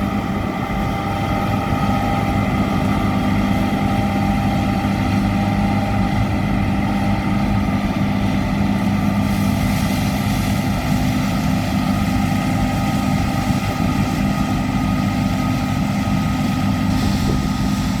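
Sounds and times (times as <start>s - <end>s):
combine harvester machinery hum: 0.0s - 18.0s.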